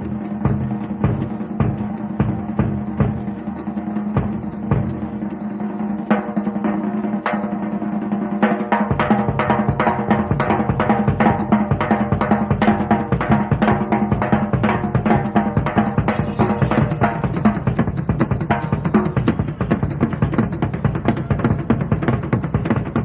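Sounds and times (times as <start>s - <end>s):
rock drum solo: 0.0s - 23.0s.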